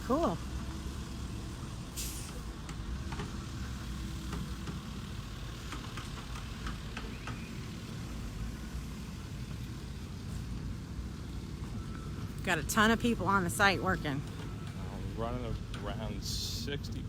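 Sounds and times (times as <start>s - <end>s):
machinery engine rumble: 0.0s - 17.0s.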